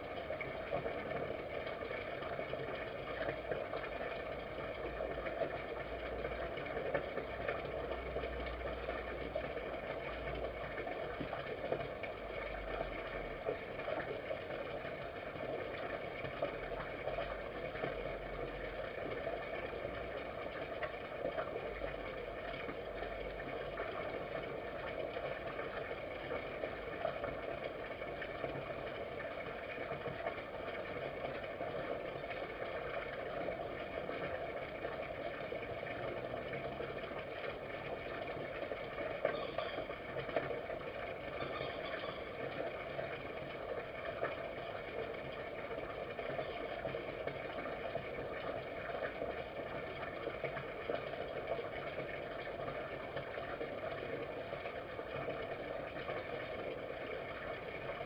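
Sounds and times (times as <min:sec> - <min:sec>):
droning background noise: 0:00.0 - 0:58.0.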